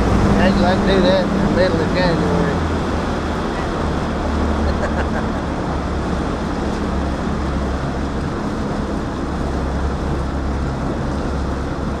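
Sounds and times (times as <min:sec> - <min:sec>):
outboard motor drone: 0:00.0 - 0:12.0
water noise: 0:00.0 - 0:12.0
wind: 0:00.0 - 0:12.0.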